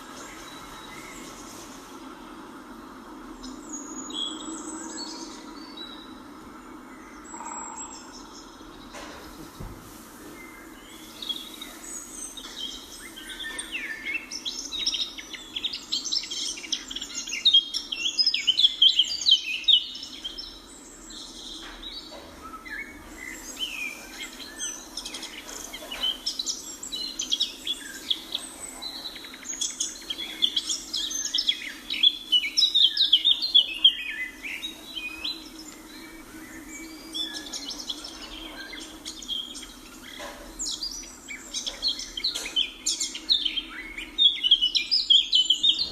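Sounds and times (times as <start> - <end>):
faint steady hum: 0.0 - 45.9
small birds chirping: 0.0 - 45.9.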